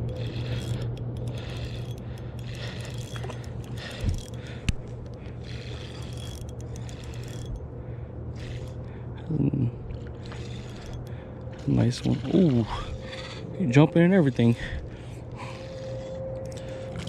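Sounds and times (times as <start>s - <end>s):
fishing reel whirring and ticking: 0.0s - 7.7s, 8.3s - 17.0s.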